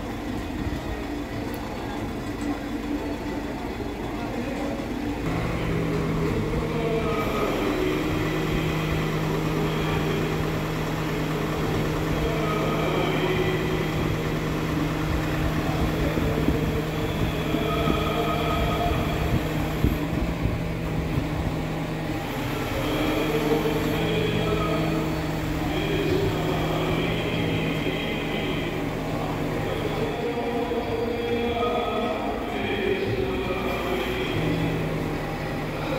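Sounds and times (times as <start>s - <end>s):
engine low drone: 0.0s - 35.9s.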